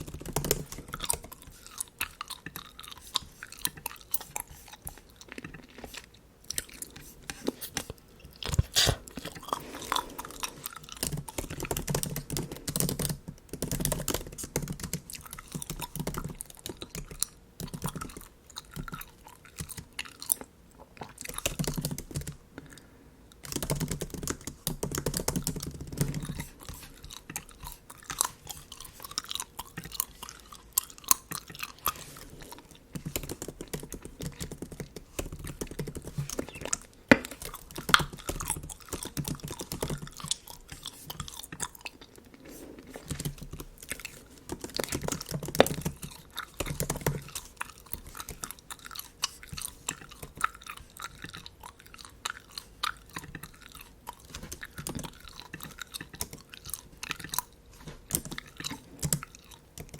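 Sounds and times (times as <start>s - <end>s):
gum chewing mouth clicks: 0.0s - 59.9s.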